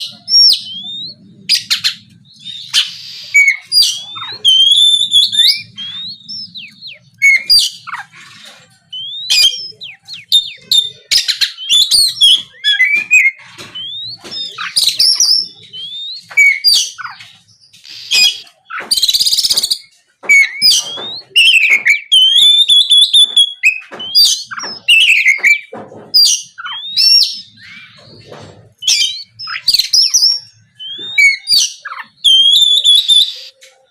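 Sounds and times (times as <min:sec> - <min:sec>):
songbird singing whistled notes: 0:00.0 - 0:28.1, 0:28.8 - 0:33.9
harsh rasping bird notes: 0:00.0 - 0:33.9.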